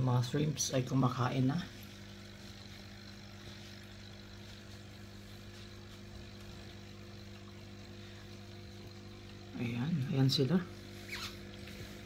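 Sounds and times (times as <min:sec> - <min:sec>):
aquarium air pump humming: 0:00.0 - 0:12.0.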